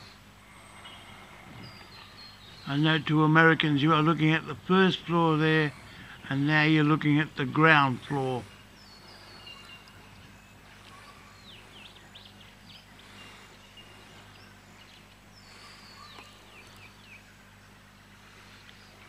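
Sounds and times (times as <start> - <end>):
birds whistling: 0.0 - 19.0
low steady hum: 0.0 - 19.0.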